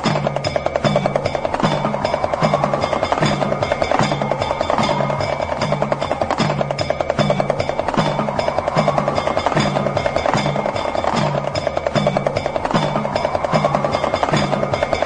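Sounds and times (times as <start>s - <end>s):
pellet drum rattling: 0.0s - 15.0s.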